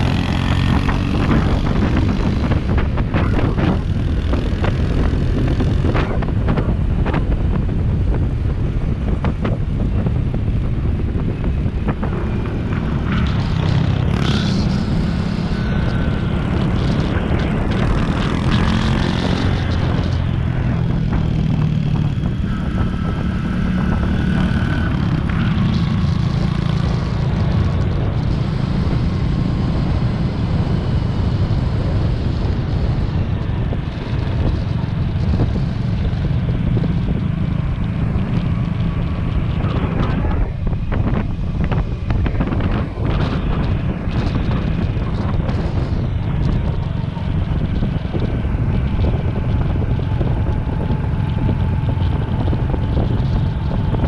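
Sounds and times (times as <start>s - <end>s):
small motorcycle engine running: 0.0s - 7.4s, 8.8s - 54.0s
wind rushing over microphone: 0.0s - 54.0s.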